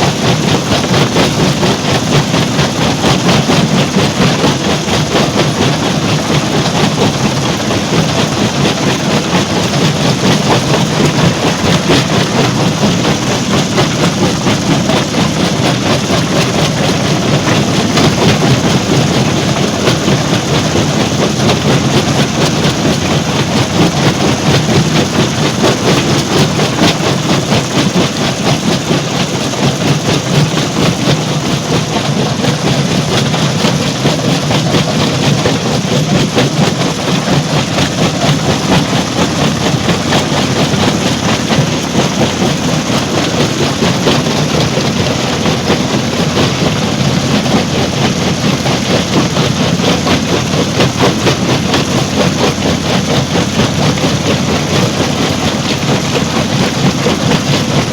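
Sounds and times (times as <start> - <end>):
heavy engine drone: 0.0 - 57.9
rock crusher rattling: 0.0 - 57.9.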